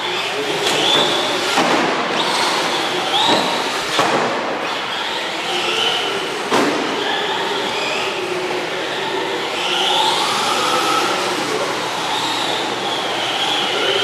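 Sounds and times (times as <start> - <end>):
rc car electric motor whining: 0.0 - 4.0, 4.6 - 14.0.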